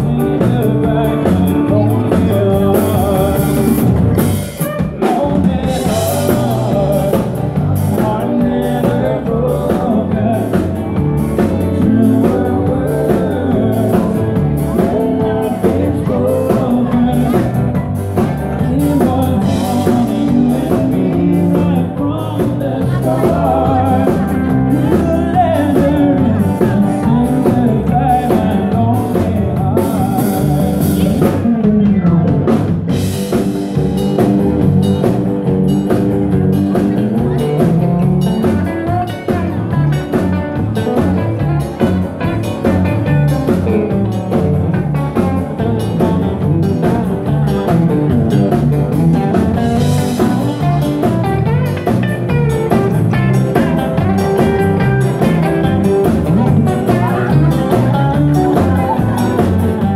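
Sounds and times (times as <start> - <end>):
drum kit beat: 0.0 - 59.9
electric guitar: 0.0 - 59.9
person singing: 0.0 - 59.9.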